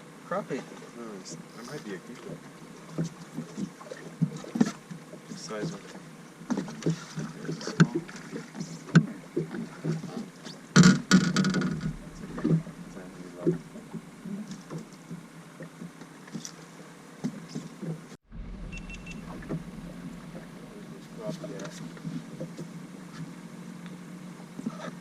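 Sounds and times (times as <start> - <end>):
knocks and clatter on boat: 0.6 - 16.6, 17.2 - 23.4.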